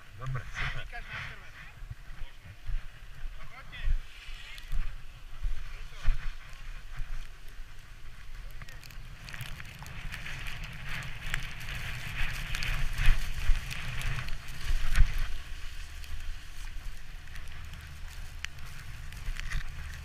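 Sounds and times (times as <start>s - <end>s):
wind rumble on microphone: 0.0s - 20.0s
sledge runners scraping over snow: 0.1s - 20.0s.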